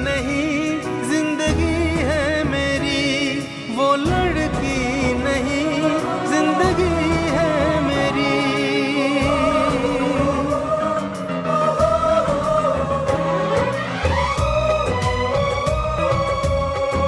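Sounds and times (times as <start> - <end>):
instrumental backing music: 0.0 - 17.0.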